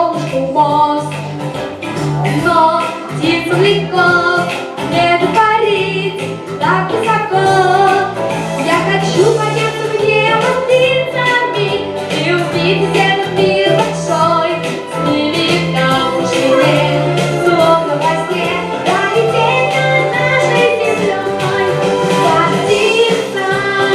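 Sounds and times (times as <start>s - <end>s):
woman singing: 0.0s - 1.2s, 2.2s - 23.9s
instrumental accompaniment: 0.0s - 23.9s
steady bass line: 0.0s - 23.9s.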